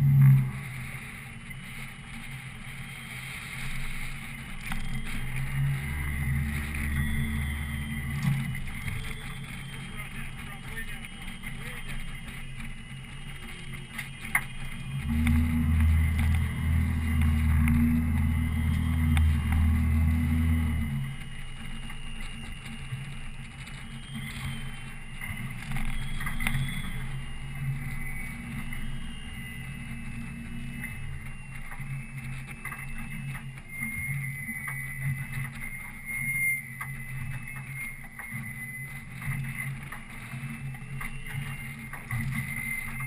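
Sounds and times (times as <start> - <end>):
boat motor humming: 0.0 - 43.0
louder low drone: 0.0 - 43.0.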